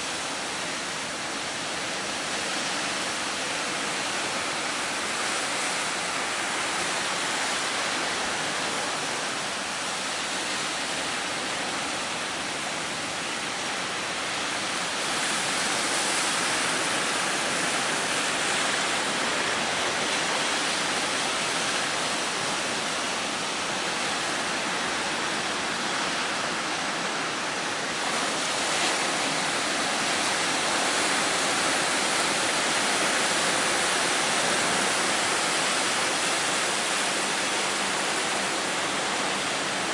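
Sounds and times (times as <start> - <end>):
sea surf rushing: 0.0 - 39.9.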